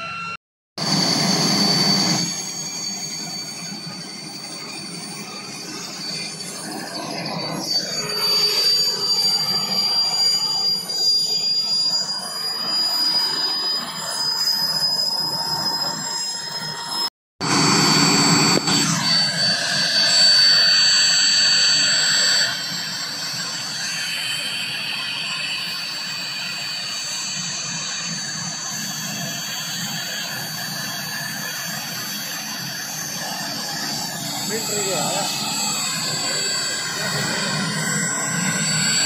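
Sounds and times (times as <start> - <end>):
helicopter turbine whine: 0.0 - 39.0.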